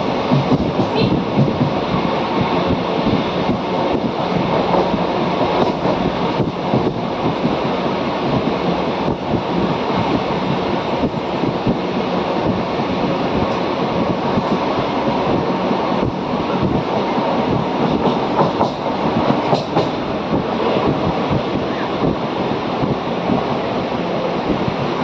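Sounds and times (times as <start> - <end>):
loud rumbling noise: 0.0 - 25.0.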